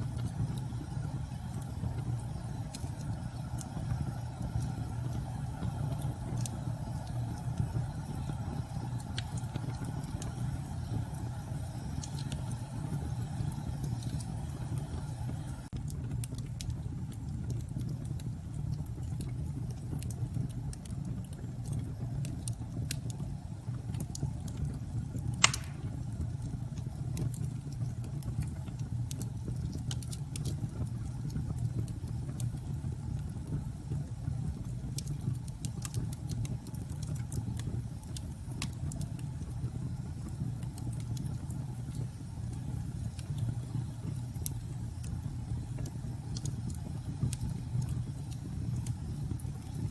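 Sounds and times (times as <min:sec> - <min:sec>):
fireplace crackling and popping: 0:00.0 - 0:49.9.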